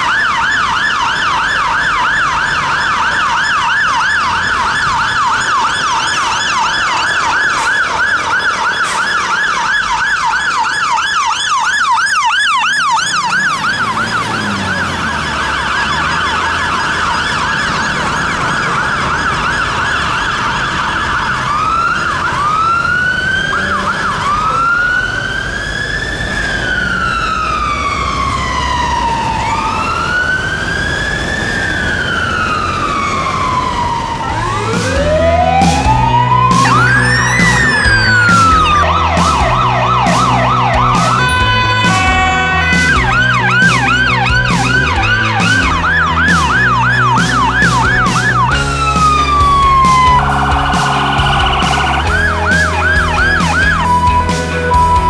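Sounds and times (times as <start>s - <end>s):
diesel truck engine: 0.0s - 55.0s
fire engine sirens: 0.0s - 55.0s.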